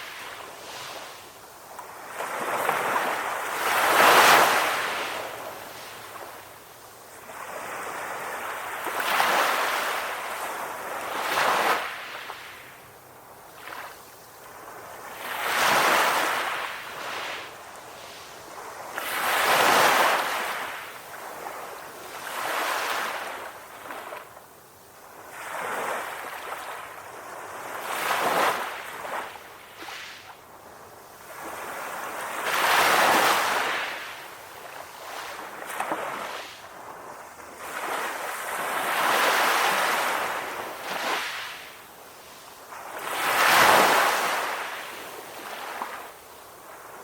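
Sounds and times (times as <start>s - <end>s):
sea waves breaking on shore: 0.0s - 6.5s, 13.6s - 24.4s, 25.0s - 30.4s, 31.2s - 47.0s.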